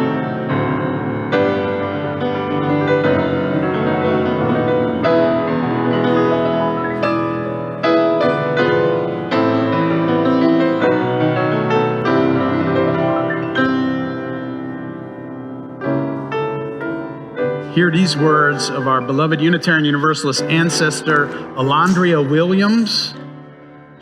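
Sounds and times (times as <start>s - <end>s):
solo piano playing slow piece: 0.0s - 24.0s.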